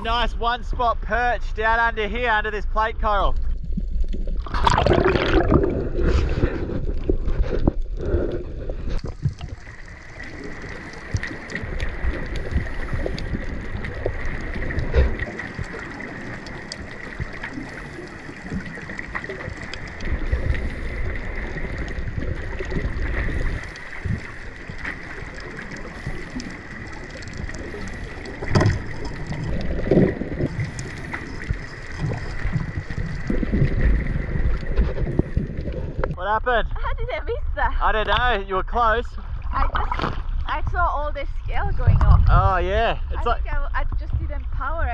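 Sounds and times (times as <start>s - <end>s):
muffled underwater bubbling: 3.3s - 38.1s, 38.7s - 44.9s.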